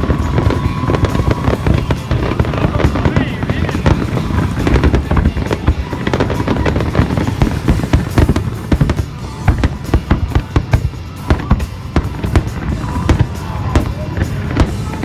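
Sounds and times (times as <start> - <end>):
continuous rumble: 0.0 - 15.0
fireworks bangs and crackles: 0.0 - 15.0.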